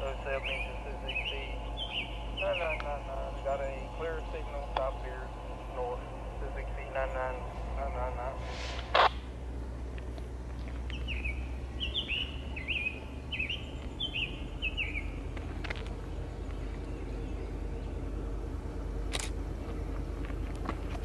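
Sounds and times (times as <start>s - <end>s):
diesel locomotive rumble: 0.0s - 21.0s
songbird chirping: 0.0s - 21.0s.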